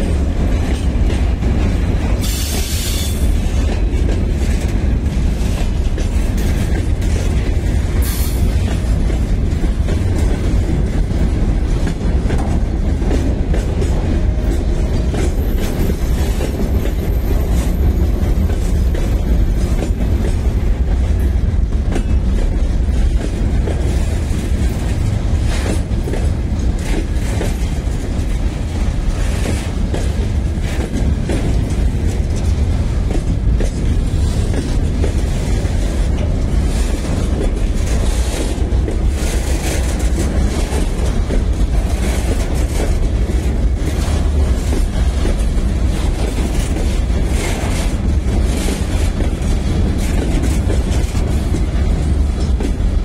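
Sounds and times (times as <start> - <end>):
train wheels rumbling on rail: 0.0 - 53.0
wheels clacking over rail joints: 0.0 - 53.0.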